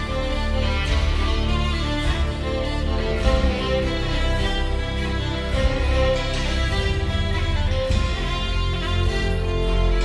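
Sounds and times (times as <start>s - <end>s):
bowed strings: 0.0s - 10.0s
steady bass: 0.0s - 10.0s.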